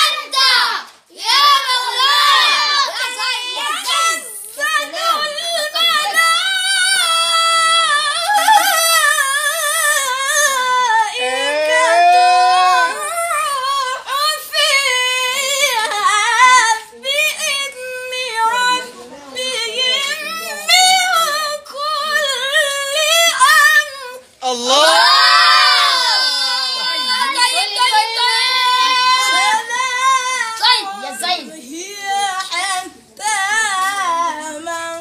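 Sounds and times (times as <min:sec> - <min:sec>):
boy chanting recitation: 0:00.0 - 0:24.8, 0:25.7 - 0:35.0.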